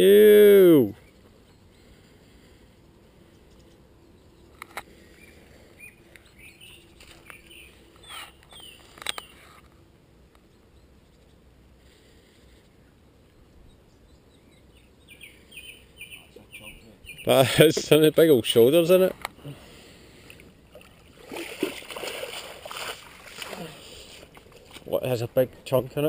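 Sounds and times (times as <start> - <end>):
small birds chirping: 0.9 - 22.8.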